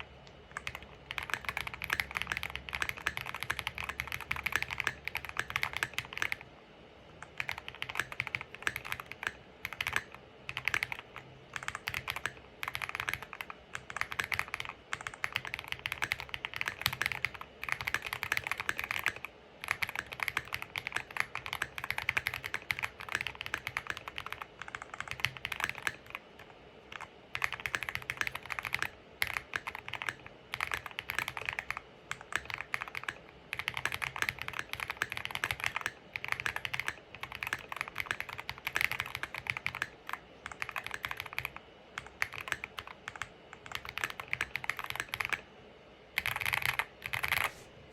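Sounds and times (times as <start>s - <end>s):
mechanical keyboard typing: 0.5s - 6.4s, 7.2s - 45.4s, 46.2s - 47.5s.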